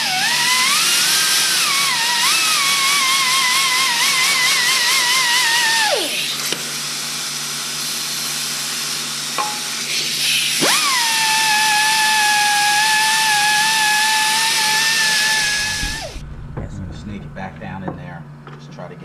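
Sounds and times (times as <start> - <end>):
air grinder whining: 0.0 - 16.2.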